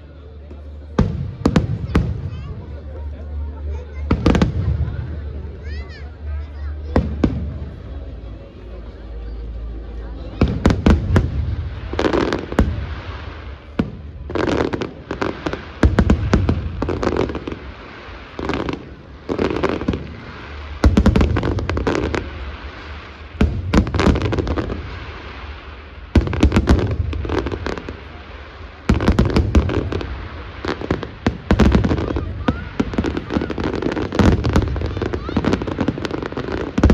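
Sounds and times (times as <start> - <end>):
fireworks bangs and crackles: 0.1 - 36.9.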